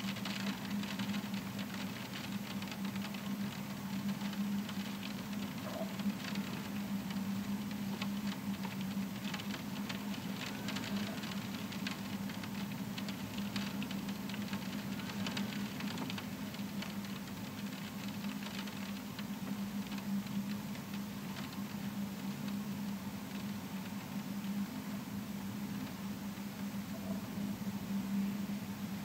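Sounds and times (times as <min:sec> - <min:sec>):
rain pattering on a window: 0:00.0 - 0:29.0
steady low hum: 0:00.0 - 0:29.0.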